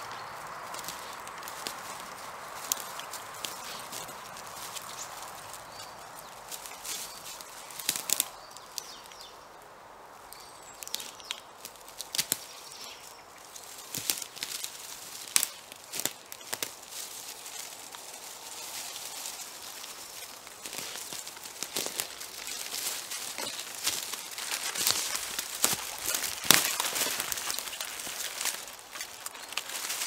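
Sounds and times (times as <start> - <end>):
footsteps on dry leaves: 0.0 - 9.4, 10.3 - 30.0
twigs cracking: 0.0 - 9.6, 10.2 - 30.0.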